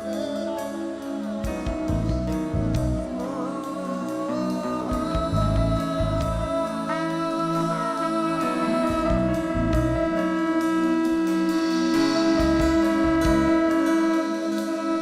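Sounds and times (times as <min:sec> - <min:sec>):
worship band music: 0:00.0 - 0:15.0.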